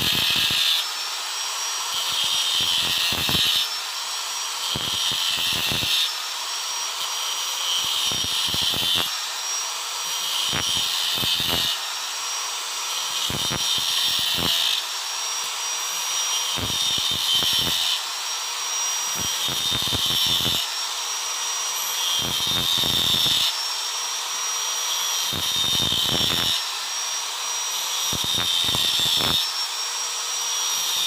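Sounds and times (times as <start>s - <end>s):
angle grinder cutting wood: 0.0s - 31.0s.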